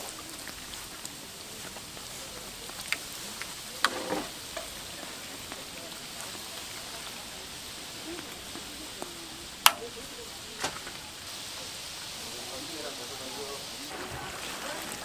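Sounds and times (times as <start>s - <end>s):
doughnuts sizzling in hot oil: 0.0s - 15.0s.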